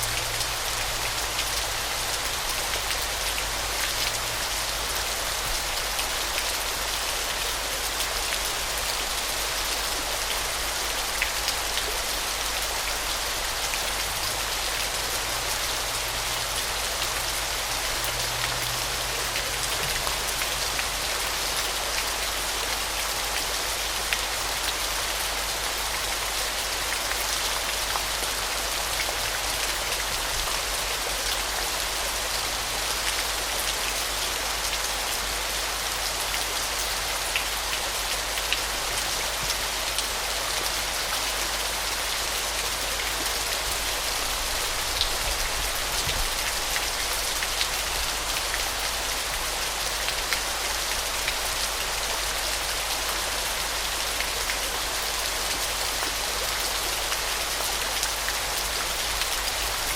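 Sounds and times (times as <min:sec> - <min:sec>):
splashing falling water: 0:00.0 - 0:59.9.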